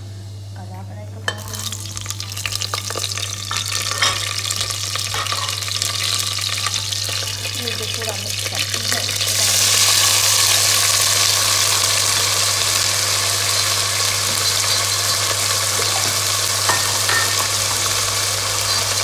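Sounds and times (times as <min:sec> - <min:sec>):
vegetables sizzling in hot oil: 0:01.3 - 0:19.0.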